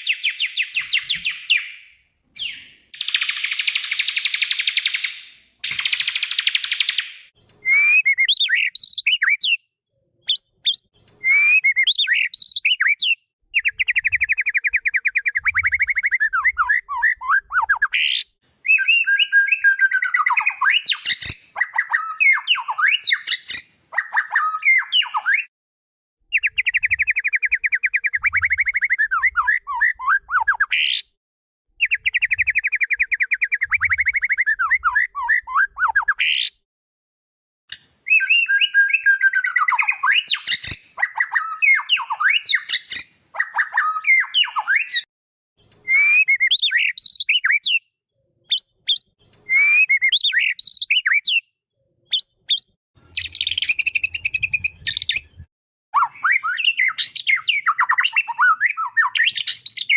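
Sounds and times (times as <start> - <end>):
bird singing fast trills and whistles: 0.0 - 25.5, 26.3 - 31.0, 31.8 - 36.6, 38.0 - 45.1, 45.8 - 47.9, 48.5 - 59.9.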